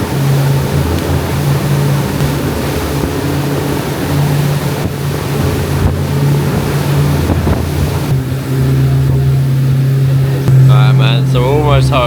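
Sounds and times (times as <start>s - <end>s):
boat engine running: 0.0s - 12.0s
water rushing: 0.0s - 12.0s
wind rushing: 0.0s - 12.0s.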